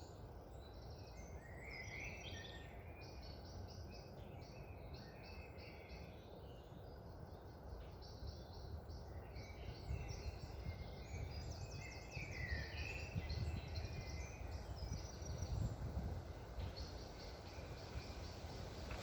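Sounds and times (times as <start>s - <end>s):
low rush of wind: 0.0s - 19.0s
wild birds chirping and trilling: 0.0s - 19.0s.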